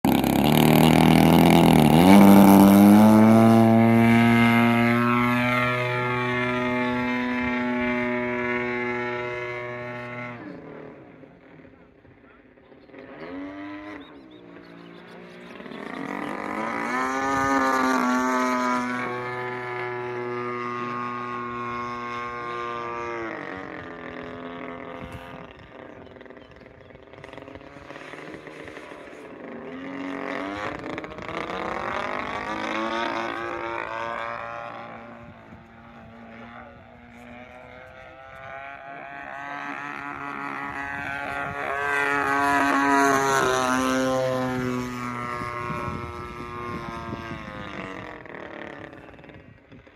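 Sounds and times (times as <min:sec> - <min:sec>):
model airplane motor droning: 0:00.0 - 0:49.9.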